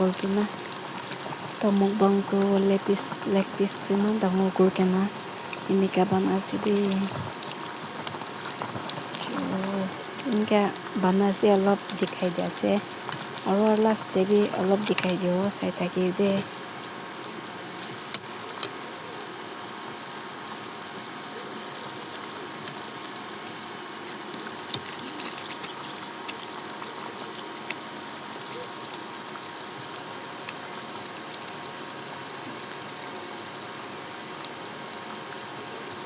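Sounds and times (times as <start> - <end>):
curry sizzling in a pot: 0.0 - 36.0.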